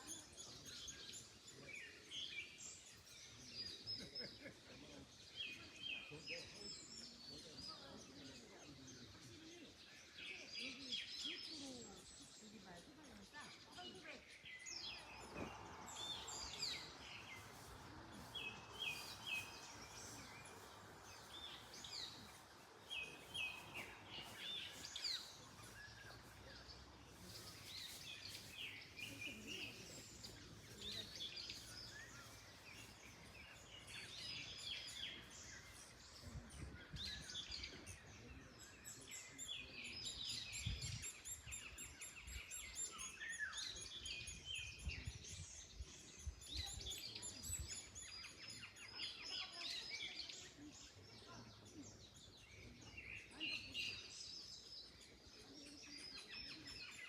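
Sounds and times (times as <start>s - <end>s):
small birds chirping: 0.0s - 57.0s
wind in trees: 0.0s - 57.0s.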